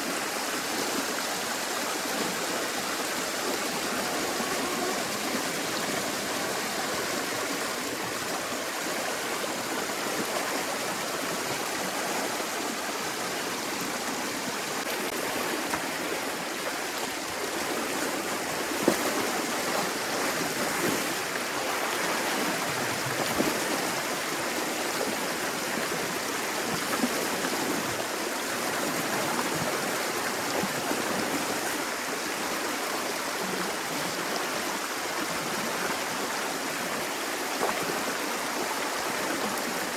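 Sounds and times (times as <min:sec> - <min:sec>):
water rushing down a canal: 0:00.0 - 0:39.9.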